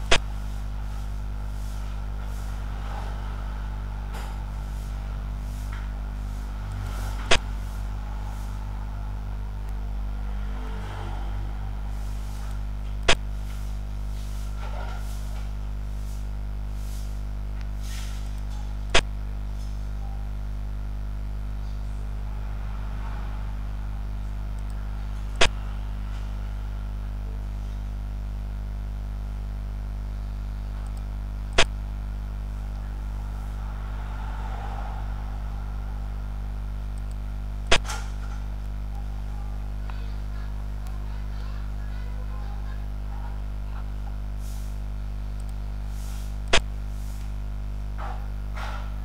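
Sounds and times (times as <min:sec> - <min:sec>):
low background hum: 0:00.0 - 0:49.0.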